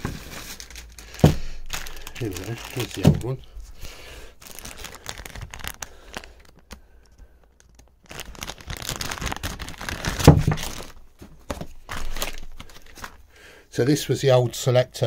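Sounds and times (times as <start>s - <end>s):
plastic bag rustling: 0.0s - 13.3s.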